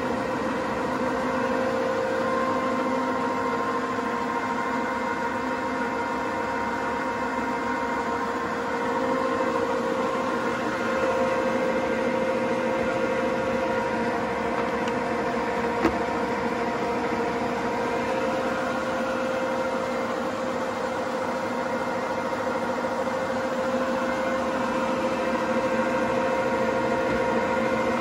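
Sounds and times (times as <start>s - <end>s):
machinery humming and whining: 0.0s - 28.0s.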